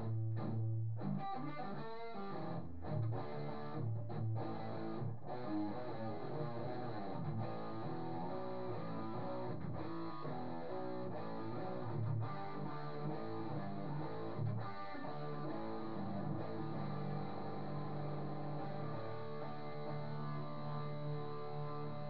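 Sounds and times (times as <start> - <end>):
guitar strumming chords: 0.0 - 22.0
picked guitar notes: 0.0 - 22.0.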